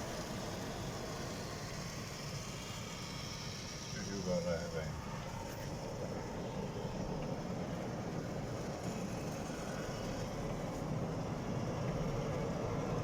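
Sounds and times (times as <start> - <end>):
low rumble of running machinery: 0.0 - 13.0.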